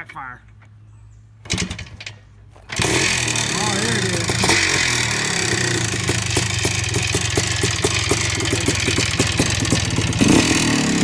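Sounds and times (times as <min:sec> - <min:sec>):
motorcycle engine idling: 0:01.4 - 0:11.0.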